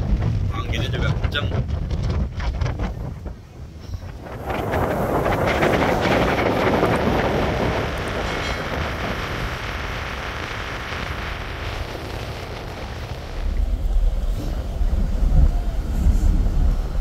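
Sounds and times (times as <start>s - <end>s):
low rumble of ship: 0.0s - 17.0s
wind buffeting microphone: 0.0s - 17.0s.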